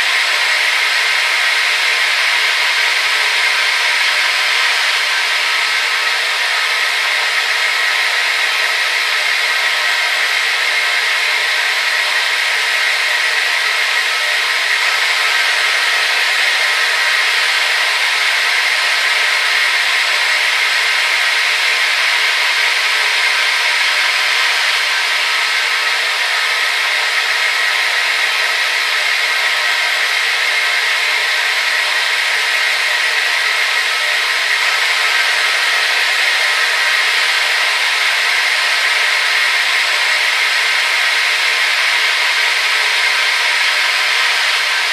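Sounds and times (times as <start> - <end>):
hair dryer running: 0.0 - 44.9.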